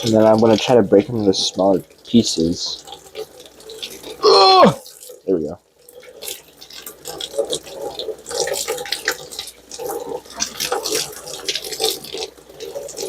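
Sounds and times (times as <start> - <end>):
tap water splashing into sink: 0.0 - 13.0.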